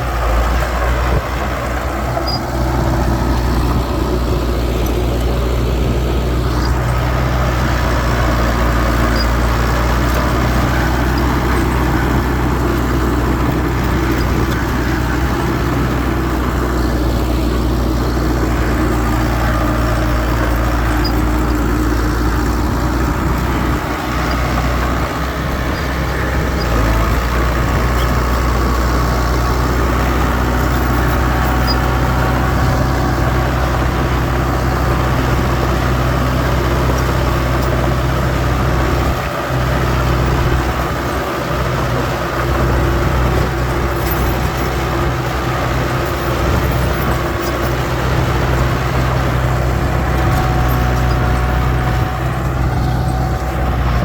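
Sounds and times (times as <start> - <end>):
earthmoving machinery engine drone: 0.0 - 54.0.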